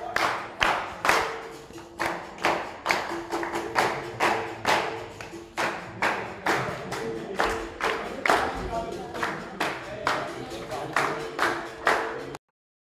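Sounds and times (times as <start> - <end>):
rhythmic hand clapping: 0.0 - 12.4.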